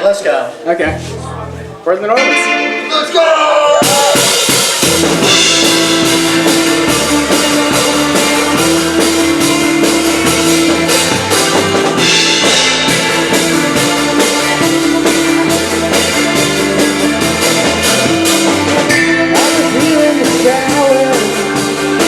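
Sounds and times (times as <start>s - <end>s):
bass guitar: 0.5s - 22.0s
drum kit beat: 0.9s - 22.0s
electric guitar: 0.9s - 22.0s.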